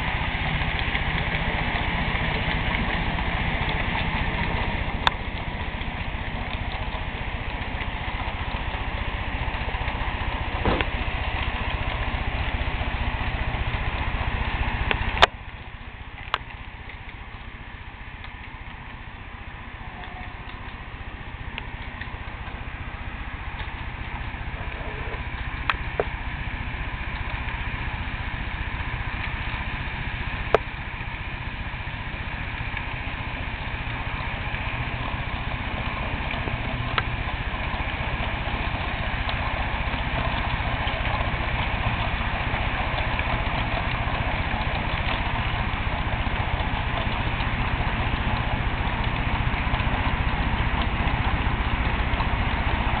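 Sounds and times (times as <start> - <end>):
model train rolling rumble: 0.0 - 53.0.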